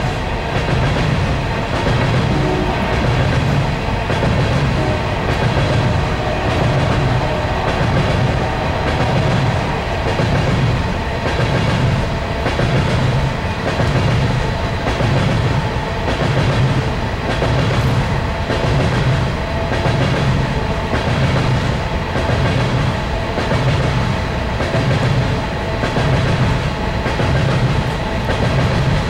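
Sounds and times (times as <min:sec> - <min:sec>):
train wheels clacking on rail joints: 0:00.0 - 0:29.0.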